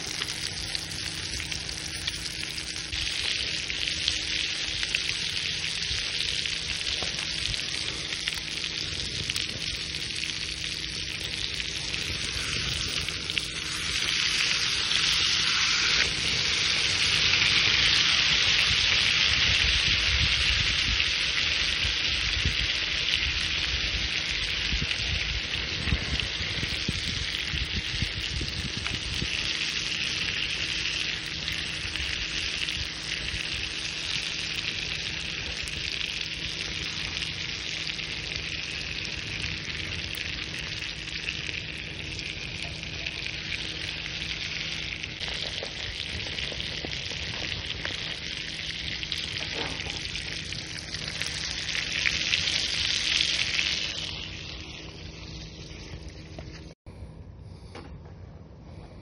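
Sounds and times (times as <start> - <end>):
steak sizzling: 0.0 - 56.8.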